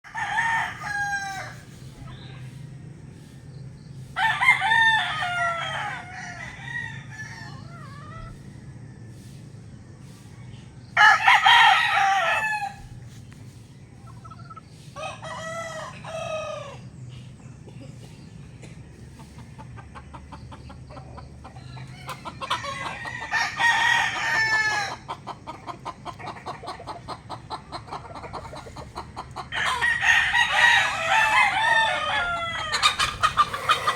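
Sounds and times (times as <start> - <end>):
roosters crowing: 0.0 - 17.4, 18.0 - 33.9
steady low hum: 0.1 - 33.9.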